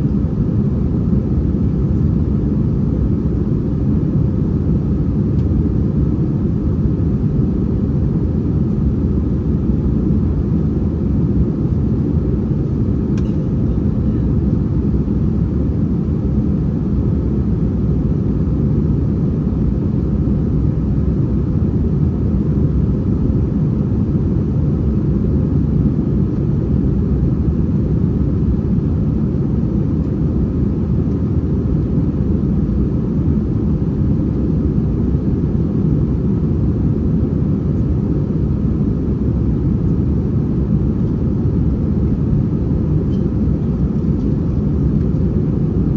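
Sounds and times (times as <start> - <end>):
airplane cabin drone: 0.0 - 45.9.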